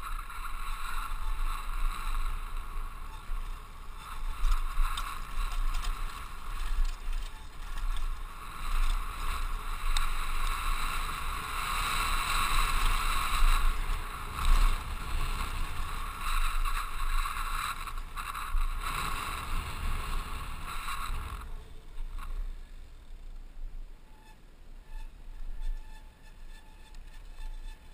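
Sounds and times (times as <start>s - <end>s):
wind buffeting microphone: 0.0s - 22.4s
bike rattling: 0.0s - 27.9s
bike tyres on dirt: 0.0s - 27.9s.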